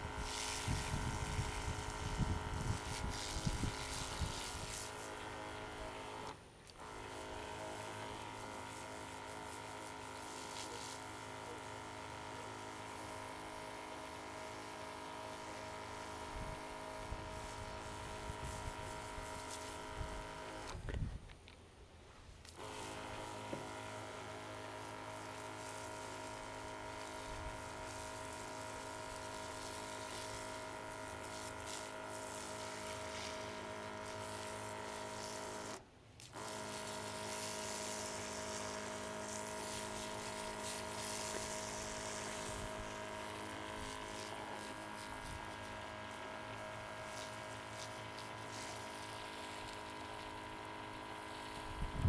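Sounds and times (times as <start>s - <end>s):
small electric motor whirring: 0.0s - 21.1s, 22.3s - 52.0s.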